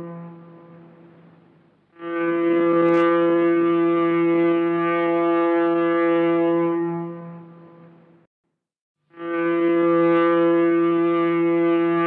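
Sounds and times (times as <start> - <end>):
foghorn blast: 0.0 - 1.2, 1.9 - 8.0, 9.1 - 12.0.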